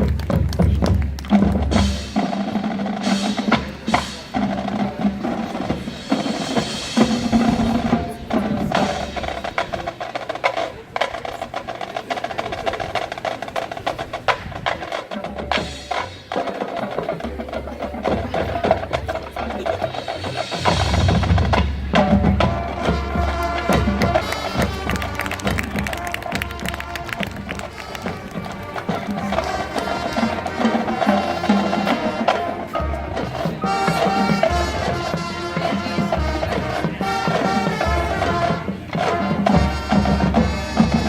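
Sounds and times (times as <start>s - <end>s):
drum line striking rapidly: 0.0s - 41.0s
marching band playing: 0.0s - 41.0s.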